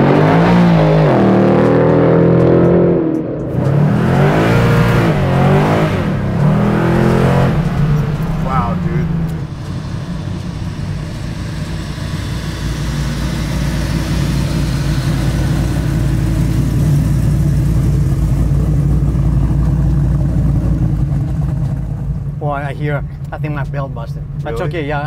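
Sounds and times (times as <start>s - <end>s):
engine low rumble: 0.0s - 25.0s.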